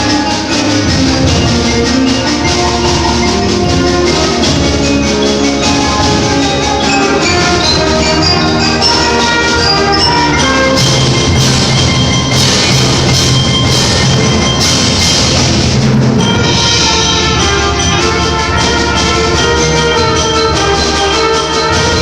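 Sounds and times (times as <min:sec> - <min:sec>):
concert band playing: 0:00.0 - 0:22.0
sharp percussion hits: 0:00.0 - 0:22.0.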